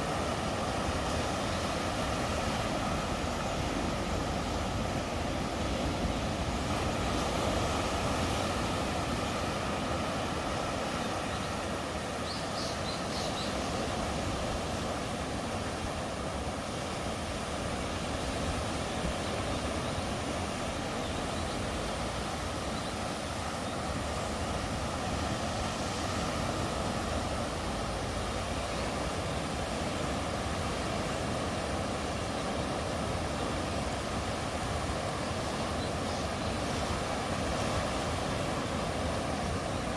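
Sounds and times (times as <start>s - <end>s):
sea rushing at the shore: 0.0s - 39.9s.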